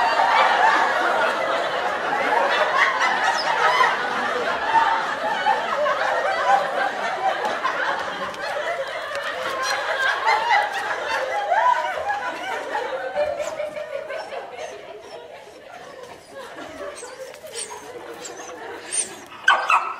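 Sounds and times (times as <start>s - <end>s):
people giggling and laughing: 0.0s - 19.9s.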